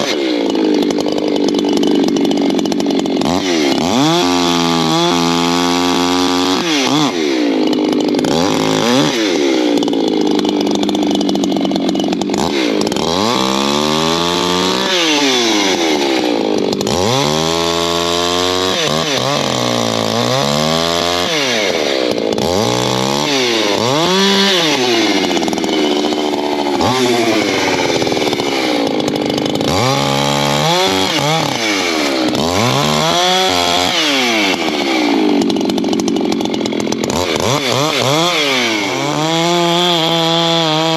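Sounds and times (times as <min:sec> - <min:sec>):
chainsaw cutting logs: 0:00.0 - 0:40.9.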